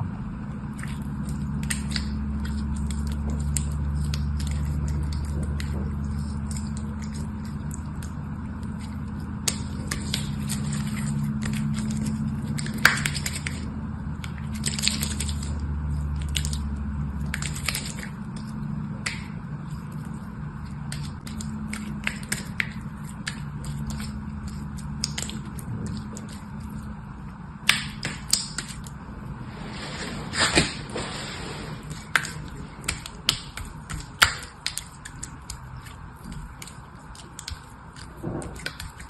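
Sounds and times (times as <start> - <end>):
steady low hum: 0.0 - 39.0
wet squishes and crackles: 0.6 - 29.0, 31.9 - 39.0.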